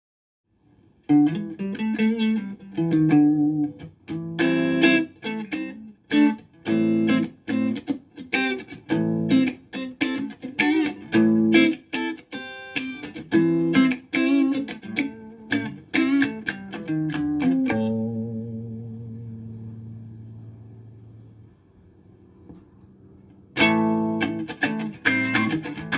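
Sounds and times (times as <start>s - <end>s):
electric guitar strummed chords: 1.1s - 21.3s, 23.5s - 25.9s.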